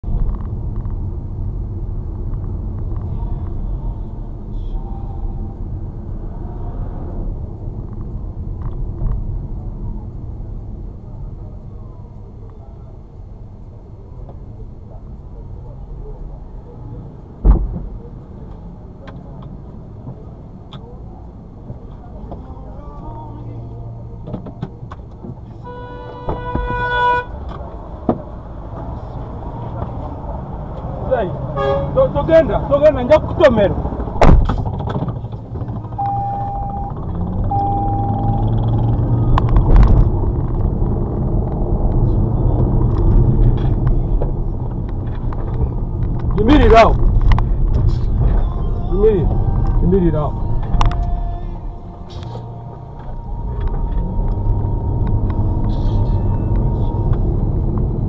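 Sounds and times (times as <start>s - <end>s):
low rumble of car and traffic: 0.0s - 58.0s.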